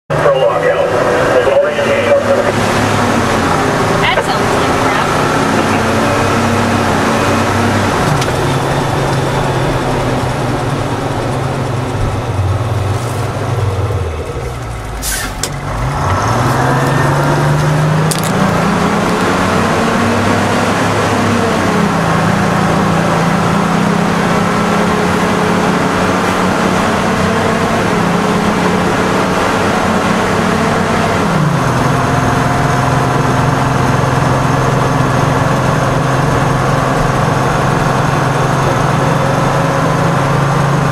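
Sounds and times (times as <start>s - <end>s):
diesel engine in truck cab: 0.1s - 40.9s.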